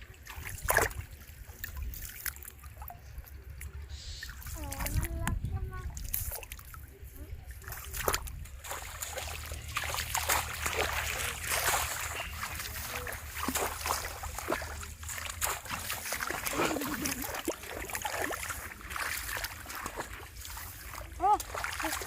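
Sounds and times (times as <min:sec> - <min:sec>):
shallow water splashing: 0:00.0 - 0:22.0.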